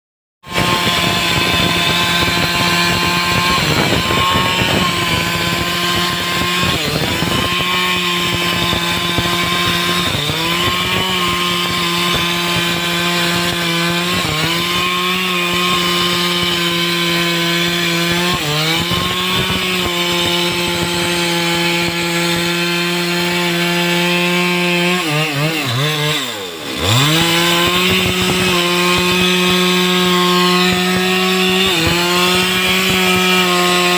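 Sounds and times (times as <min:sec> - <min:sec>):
chainsaw cutting wood: 0:00.4 - 0:33.9.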